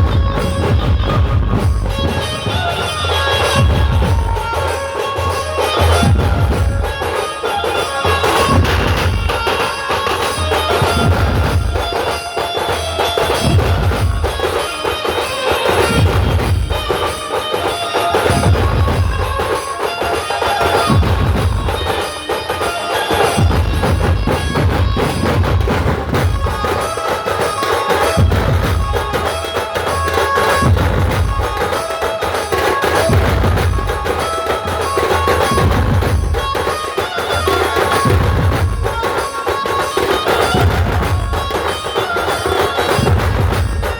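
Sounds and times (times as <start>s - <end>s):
heavy bass drum beats: 0.0s - 17.4s, 18.2s - 43.9s
band playing drum music: 0.0s - 43.9s.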